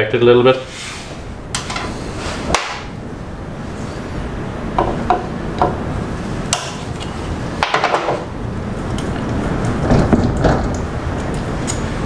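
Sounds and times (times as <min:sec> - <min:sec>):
wind rumble on microphone: 0:01.1 - 0:12.0.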